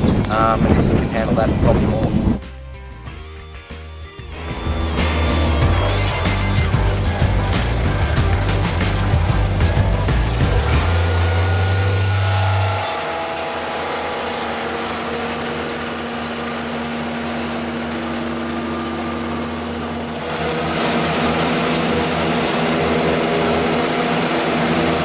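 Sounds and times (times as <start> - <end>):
wood chipper engine running: 4.2 - 25.0.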